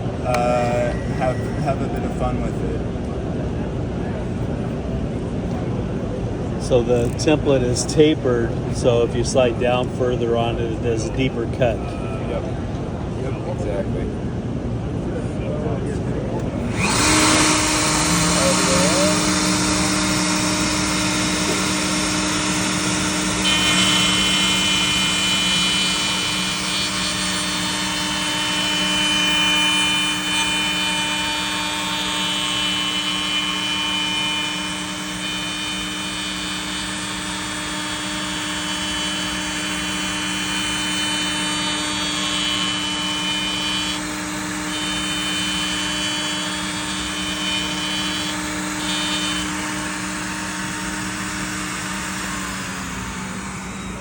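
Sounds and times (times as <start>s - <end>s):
router cutting wood: 0.0s - 2.6s, 6.6s - 12.2s, 16.4s - 54.0s
high whine: 0.0s - 14.4s, 16.2s - 54.0s.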